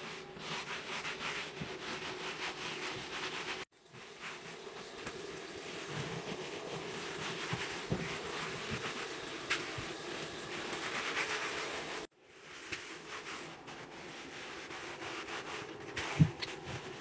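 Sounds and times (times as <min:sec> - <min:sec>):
cloth scrubbing tiled floor: 0:00.0 - 0:17.0.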